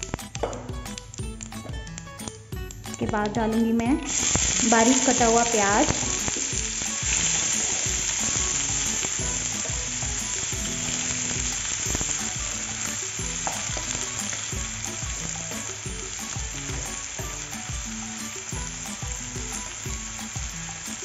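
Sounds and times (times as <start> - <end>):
onion sizzling in hot oil: 0.0 - 21.0.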